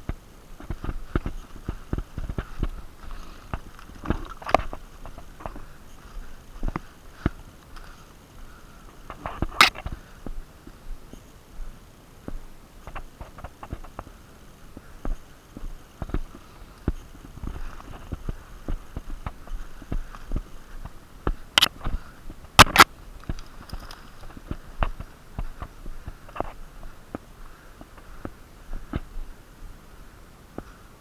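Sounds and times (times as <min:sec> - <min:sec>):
footsteps: 0:00.0 - 0:11.3, 0:14.8 - 0:29.3.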